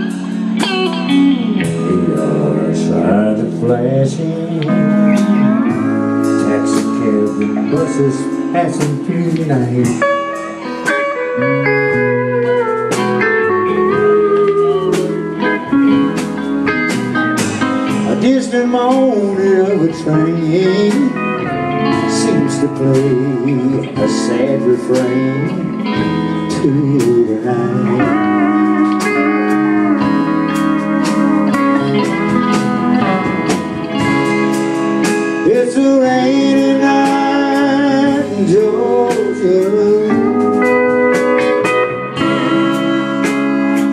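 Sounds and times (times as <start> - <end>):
band playing soul ballad: 0.0 - 43.9
sliding guitar notes: 0.0 - 43.9.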